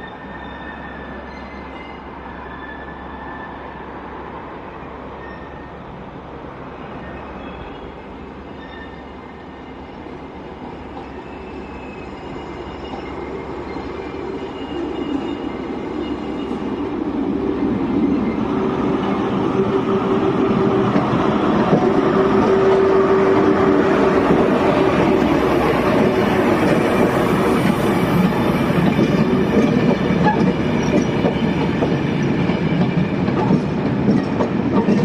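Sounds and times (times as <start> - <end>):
train rumbling on rails: 0.0 - 35.0.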